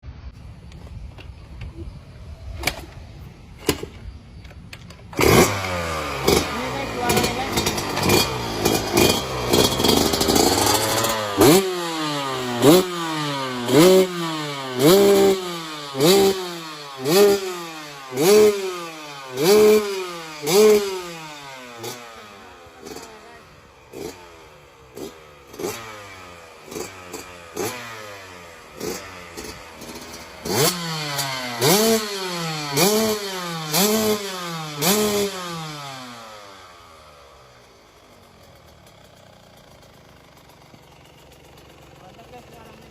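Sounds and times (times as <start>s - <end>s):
two-stroke engine revving: 5.0s - 42.9s.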